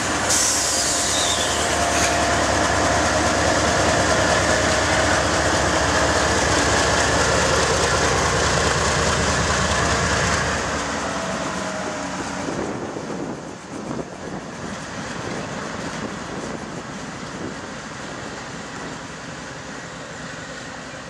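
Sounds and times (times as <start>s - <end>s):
diesel locomotive engines passing: 0.0s - 21.0s
rail cars rolling on rails: 0.0s - 21.0s.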